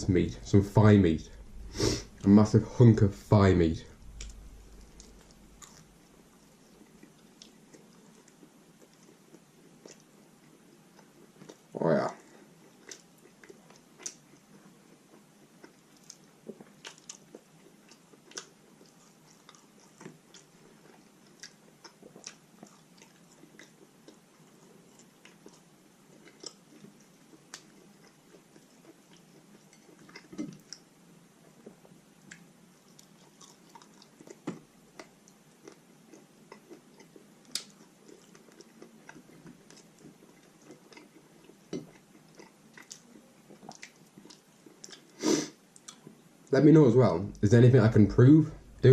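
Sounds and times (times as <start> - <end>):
person chewing meat: 4.0 - 45.2.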